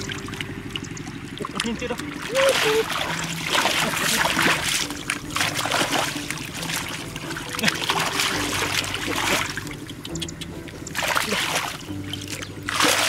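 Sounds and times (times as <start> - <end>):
hands splashing in water: 0.8 - 13.0.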